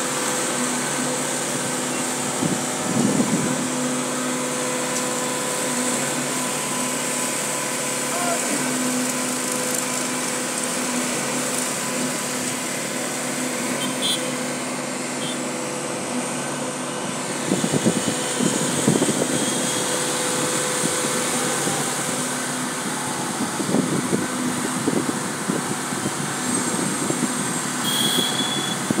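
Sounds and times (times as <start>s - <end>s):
cement mixer engine droning: 0.0s - 29.0s.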